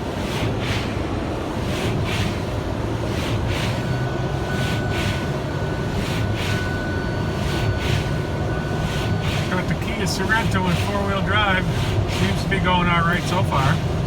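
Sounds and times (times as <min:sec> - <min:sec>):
car engine and road rumble: 0:00.0 - 0:14.0
thin steady whine: 0:00.0 - 0:14.0
windshield wipers swishing: 0:00.1 - 0:14.0.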